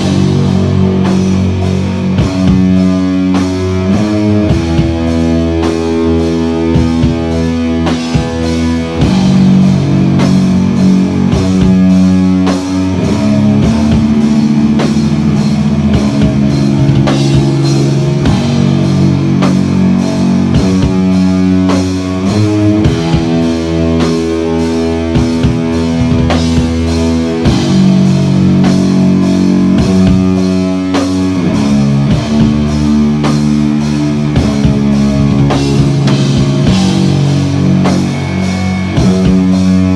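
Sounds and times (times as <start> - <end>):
bass guitar: 0.0 - 39.9
drum kit beat: 0.0 - 39.9
electric guitar chords: 0.0 - 39.9.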